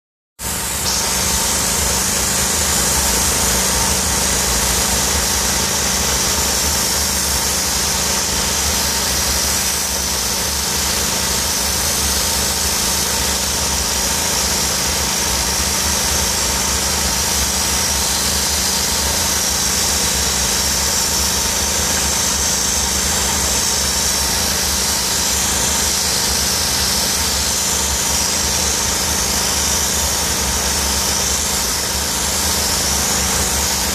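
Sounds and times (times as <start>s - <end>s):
steam cleaner engine drone: 0.4s - 33.9s
steam jet hissing: 0.4s - 33.9s.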